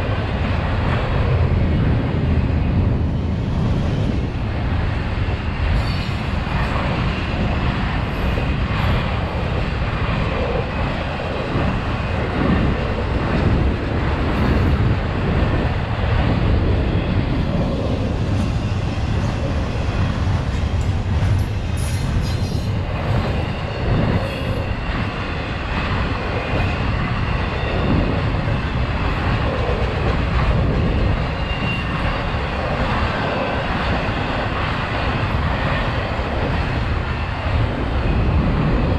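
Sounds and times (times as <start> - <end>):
steel wheels on rail: 0.0 - 38.9.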